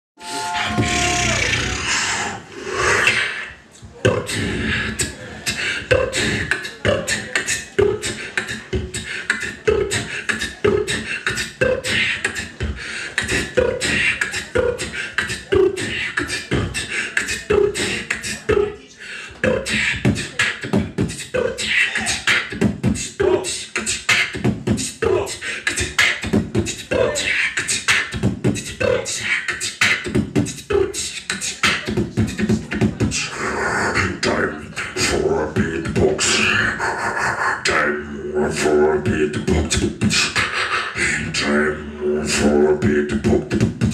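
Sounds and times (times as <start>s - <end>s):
beatboxing: 0.2s - 43.9s.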